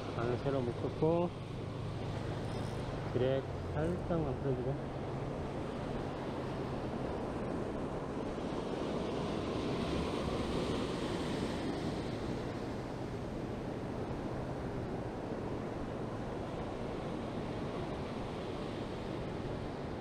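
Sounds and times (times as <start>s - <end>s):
small waves breaking on sand: 0.0s - 20.0s.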